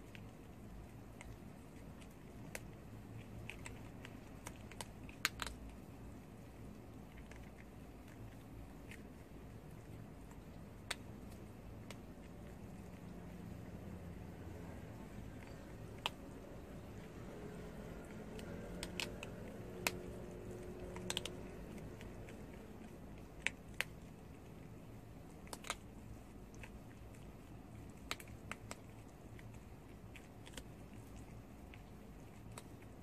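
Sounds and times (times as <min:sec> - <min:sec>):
teeth clicking on food: 0:00.0 - 0:13.8, 0:14.5 - 0:33.0.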